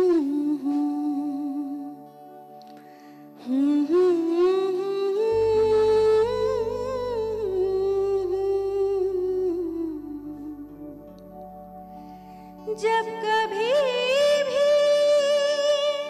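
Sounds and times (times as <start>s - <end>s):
low sustained accompaniment: 0.0s - 16.0s.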